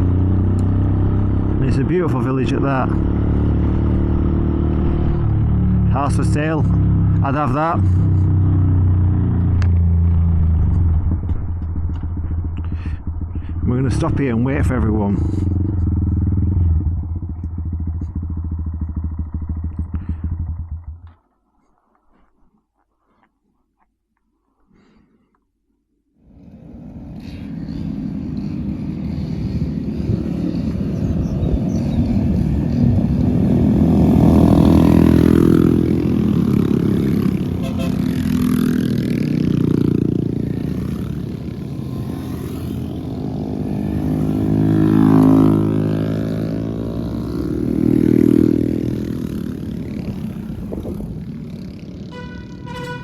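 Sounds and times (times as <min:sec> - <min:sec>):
small motorcycles revving: 0:00.0 - 0:21.2, 0:26.3 - 0:53.0.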